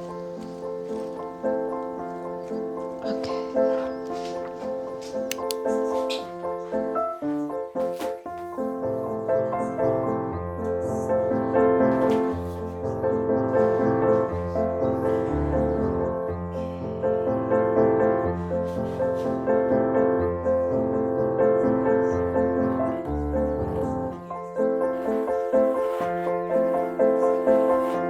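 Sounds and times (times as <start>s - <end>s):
piano music with slow bass line: 0.0s - 28.0s.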